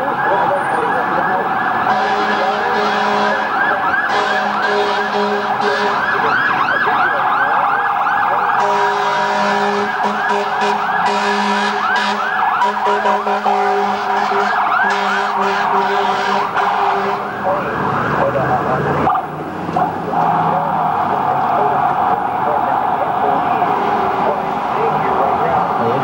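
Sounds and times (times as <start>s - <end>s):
emergency vehicle sirens wailing: 0.0s - 26.0s.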